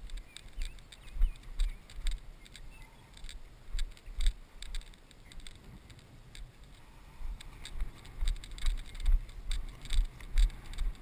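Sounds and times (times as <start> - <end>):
camera rustles and thumps: 0.0 - 11.0.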